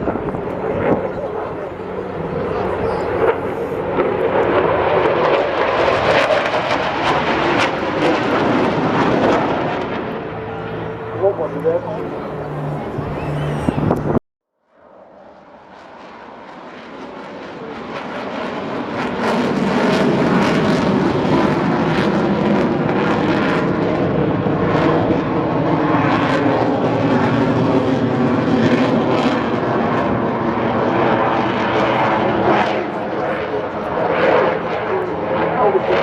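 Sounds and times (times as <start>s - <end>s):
aircraft engine passing: 0.0s - 36.0s.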